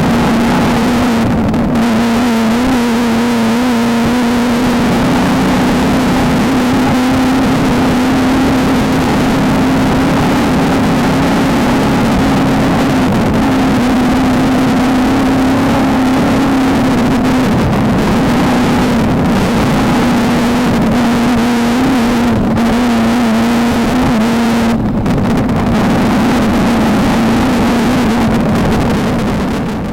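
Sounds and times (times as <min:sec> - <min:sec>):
race car engine running hard: 0:00.0 - 0:29.9
wind noise: 0:00.0 - 0:29.9.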